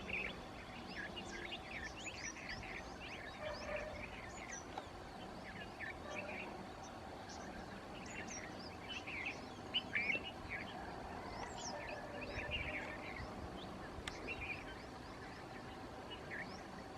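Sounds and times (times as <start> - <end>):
small birds chirping: 0.0 - 16.9
steady background noise: 0.0 - 16.9.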